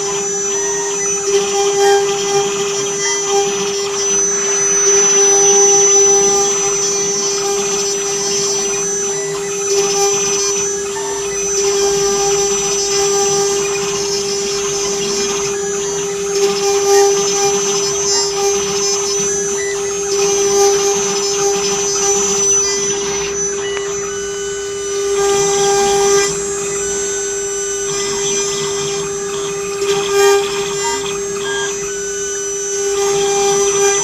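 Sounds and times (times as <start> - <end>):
router motor whine: 0.0 - 34.0
cutting hiss: 6.0 - 34.0.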